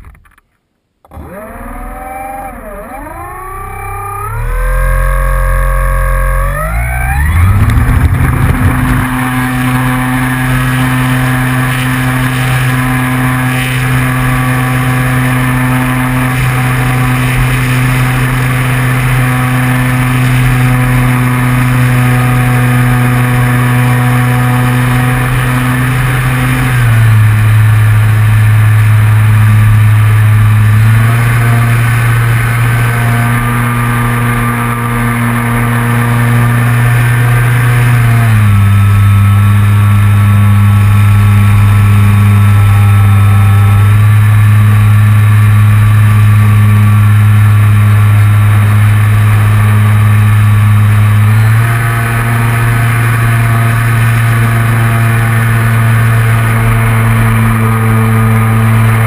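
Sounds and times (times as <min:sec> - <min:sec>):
model airplane motor and propeller: 0:00.0 - 0:59.0.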